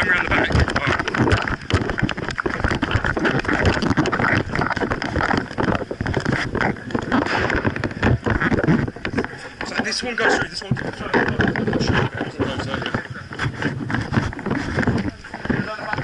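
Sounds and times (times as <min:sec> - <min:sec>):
clothing rustling against camera: 0:00.0 - 0:16.0
footfalls: 0:00.0 - 0:16.0.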